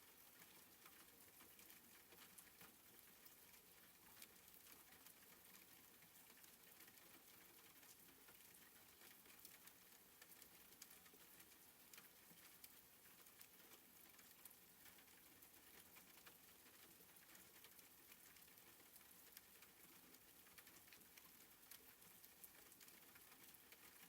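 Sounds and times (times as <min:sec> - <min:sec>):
light rain pattering: 0:00.0 - 0:24.0.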